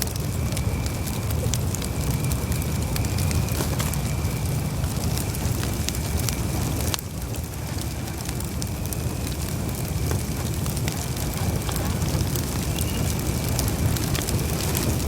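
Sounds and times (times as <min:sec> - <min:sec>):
campfire crackling: 0:00.0 - 0:15.0
campfire flames rumbling: 0:00.0 - 0:15.0.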